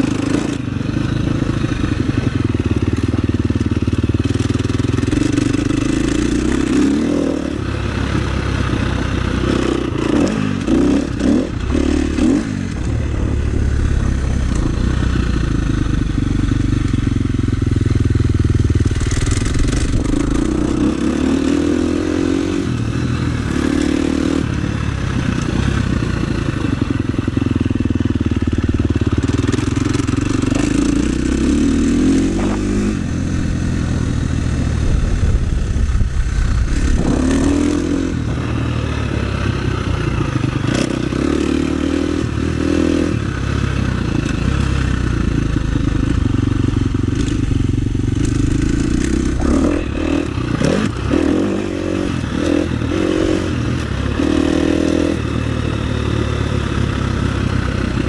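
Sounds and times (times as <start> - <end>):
motocross bike engine revving: 0.0 - 2.7, 4.2 - 58.0.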